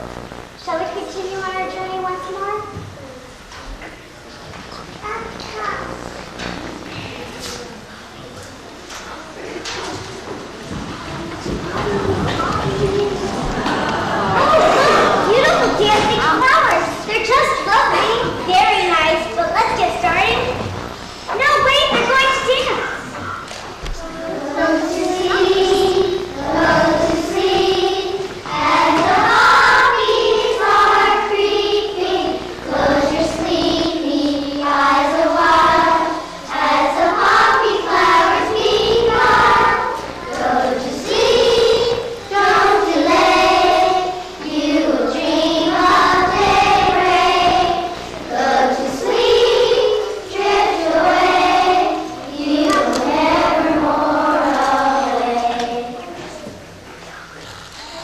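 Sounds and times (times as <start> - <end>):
children's choir singing: 6.4 - 20.7, 21.4 - 56.8.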